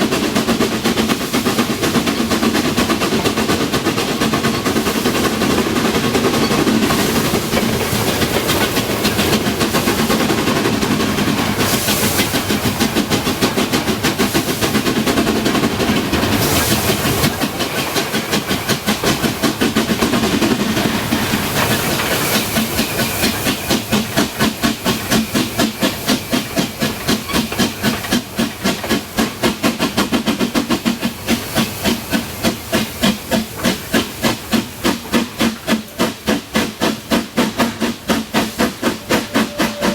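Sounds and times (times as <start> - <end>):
steam hissing: 0.0 - 39.9
steam locomotive exhaust chuffing: 0.0 - 39.9.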